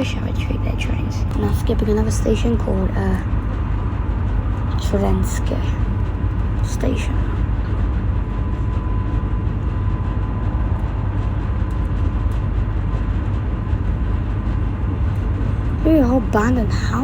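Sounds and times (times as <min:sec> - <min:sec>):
train rumbling from inside carriage: 0:00.0 - 0:17.0.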